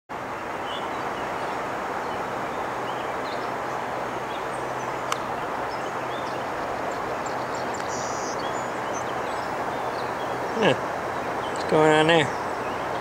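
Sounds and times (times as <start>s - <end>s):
water rushing: 0.1s - 13.0s
small birds chirping: 0.4s - 13.0s.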